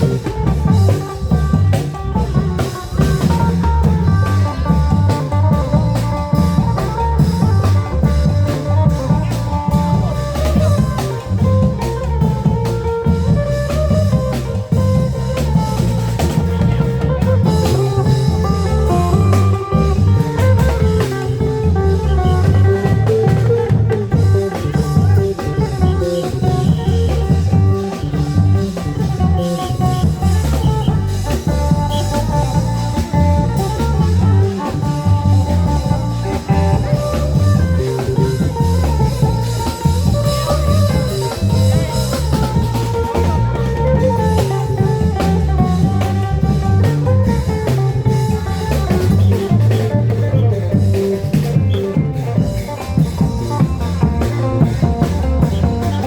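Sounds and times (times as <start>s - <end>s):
melodic lead line: 0.0s - 56.0s
pounding drums: 0.0s - 56.0s.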